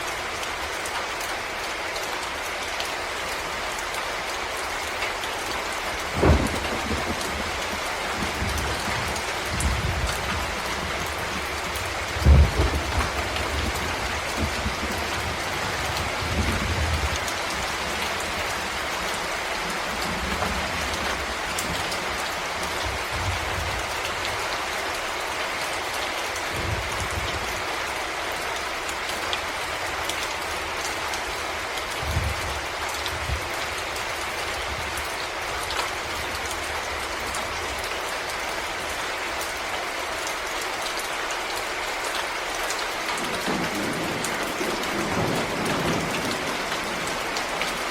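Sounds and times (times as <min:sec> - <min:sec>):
rain falling in a forest: 0:00.0 - 0:47.9.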